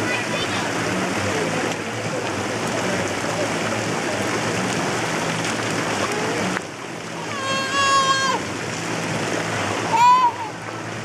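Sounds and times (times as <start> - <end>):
water features rushing: 0.0 - 11.0.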